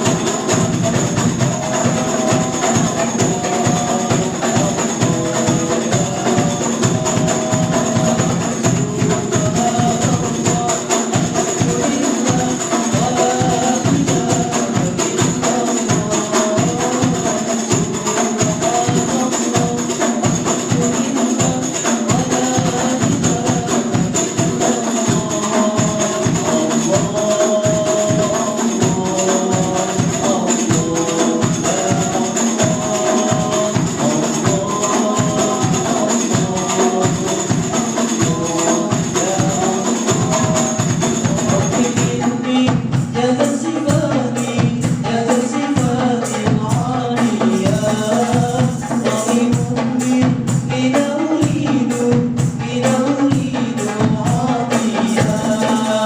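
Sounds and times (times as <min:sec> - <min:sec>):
group singing devotional song: 0:00.0 - 0:56.0
hand percussion beat: 0:00.0 - 0:56.0.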